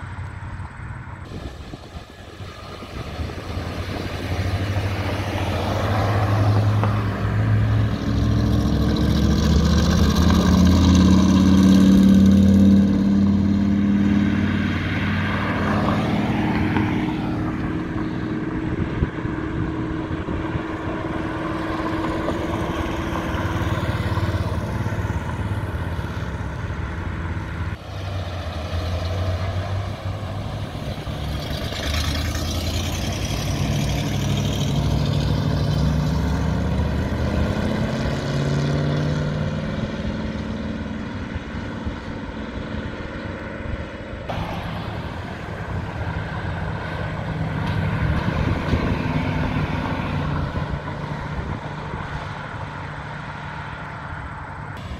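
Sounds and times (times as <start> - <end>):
car engines accelerating: 0.0 - 54.9.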